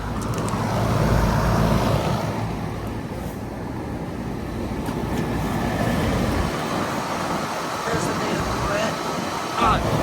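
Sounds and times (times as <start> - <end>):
air conditioner fan whooshing: 0.0 - 10.0.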